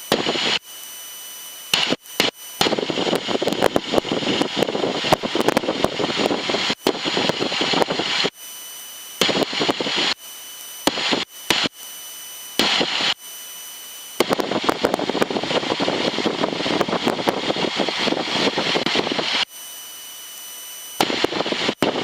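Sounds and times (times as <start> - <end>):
headset intercom static crackling: 0.0 - 22.0.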